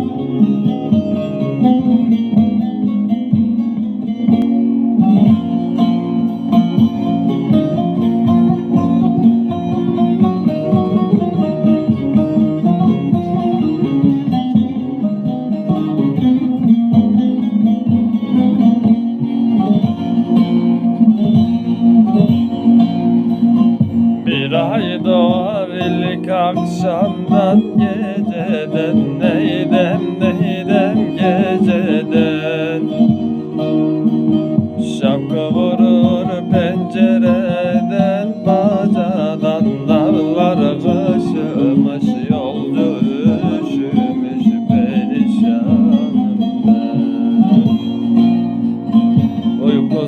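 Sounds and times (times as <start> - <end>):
plucked string instrument: 0.0 - 50.0.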